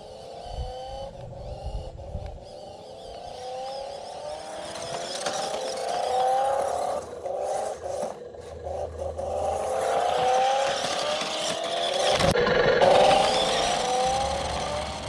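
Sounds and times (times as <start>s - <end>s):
toy truck motor whining: 0.0s - 15.0s.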